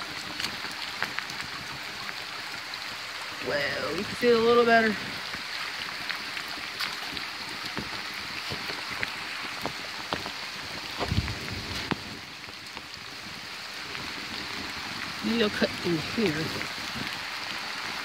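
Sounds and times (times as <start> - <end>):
rain falling through woodland: 0.0 - 18.0
rushing flooded creek: 0.0 - 18.0.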